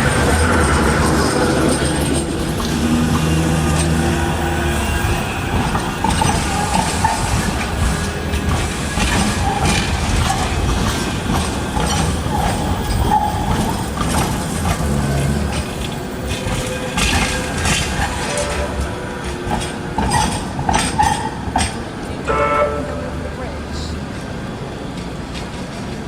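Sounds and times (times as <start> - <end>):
clicks from tram track: 0.0 - 26.0
tram wheels rumbling on rails: 0.0 - 26.0.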